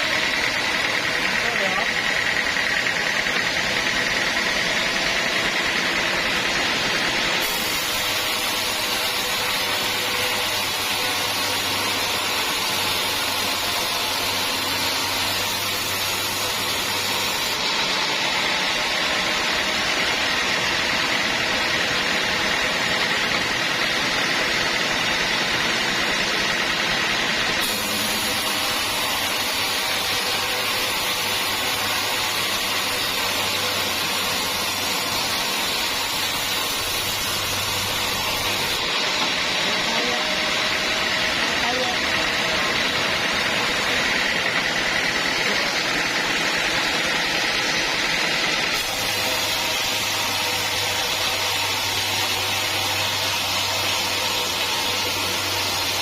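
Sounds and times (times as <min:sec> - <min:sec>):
sawmill saw cutting logs: 0:00.0 - 0:56.0.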